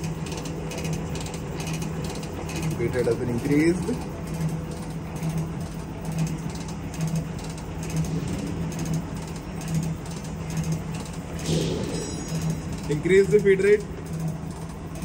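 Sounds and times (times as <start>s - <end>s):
machine humming in pulses: 0.0s - 15.0s.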